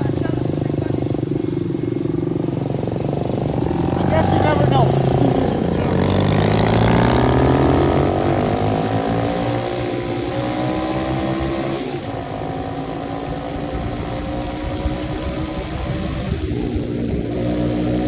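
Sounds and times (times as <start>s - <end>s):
dirt bike engine accelerating: 0.0s - 18.0s.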